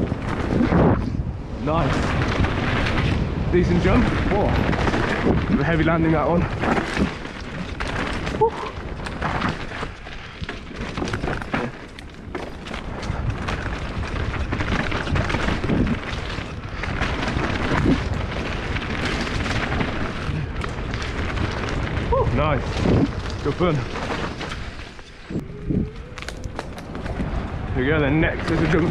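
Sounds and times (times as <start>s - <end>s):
bike knocking and rattling: 0.0s - 28.9s
tyres rumbling over dirt: 0.0s - 28.9s
wind buffeting microphone: 0.0s - 28.9s.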